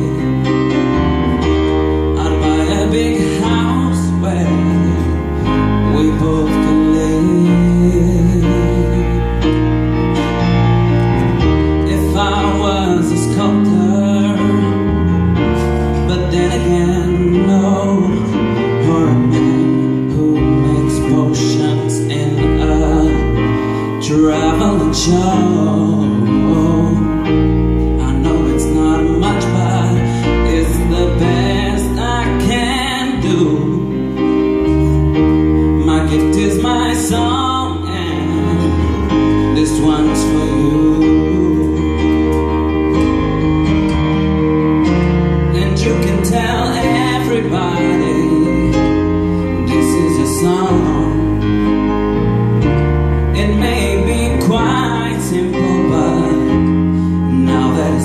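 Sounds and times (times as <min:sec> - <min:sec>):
man singing: 0:00.0 - 0:01.0, 0:01.8 - 0:09.7, 0:11.6 - 0:42.5, 0:45.5 - 0:51.9, 0:53.3 - 0:58.0
live band playing: 0:00.0 - 0:58.0.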